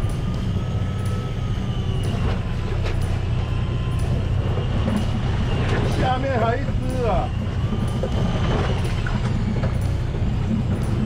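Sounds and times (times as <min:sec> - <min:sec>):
diesel boat engine droning: 0:00.0 - 0:11.0
faint high whine: 0:00.0 - 0:11.0.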